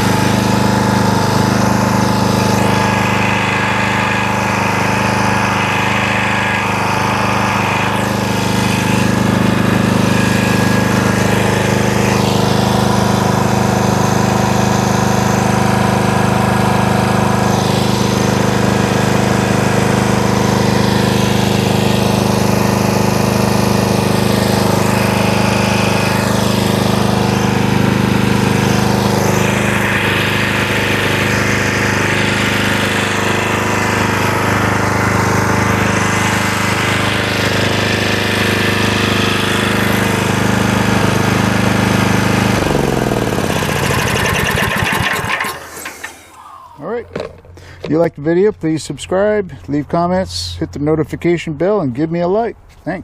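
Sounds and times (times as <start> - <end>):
generator engine running rattly: 0.0 - 51.3.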